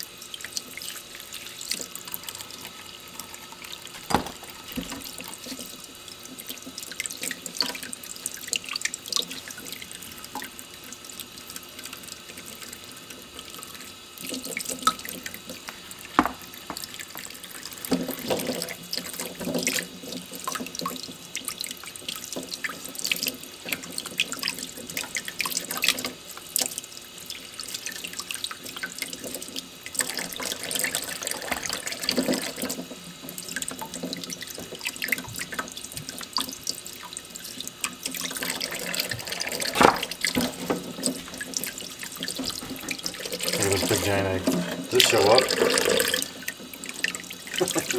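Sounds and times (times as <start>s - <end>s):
tap water running into a sink: 0.0s - 47.9s.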